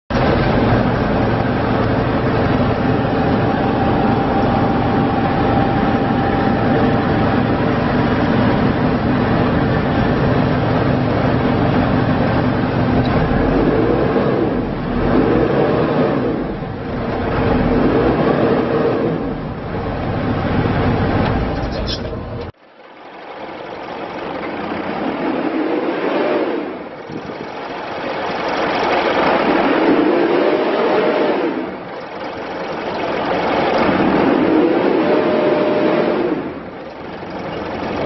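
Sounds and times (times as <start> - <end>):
diesel engine running: 0.1 - 38.0.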